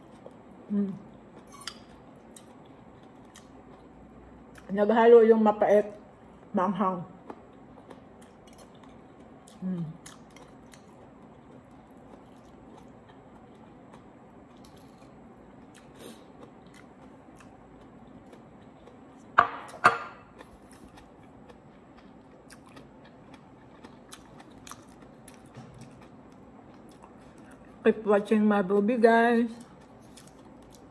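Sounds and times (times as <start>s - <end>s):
person chewing food: 0.0s - 4.7s, 7.2s - 27.8s, 29.6s - 30.9s.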